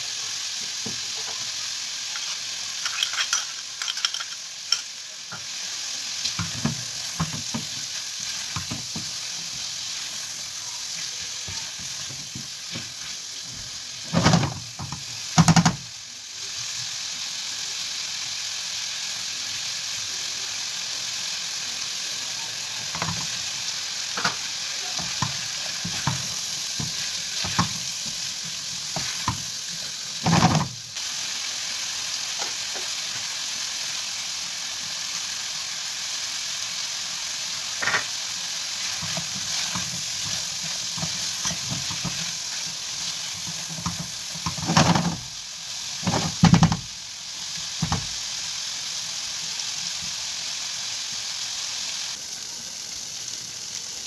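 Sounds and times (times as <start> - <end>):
livers sizzling in a pan: 0.0 - 54.0.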